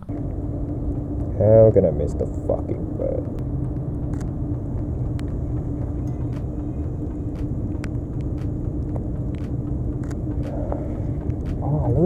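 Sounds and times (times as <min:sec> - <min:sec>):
low rumble with hum: 0:00.0 - 0:12.0.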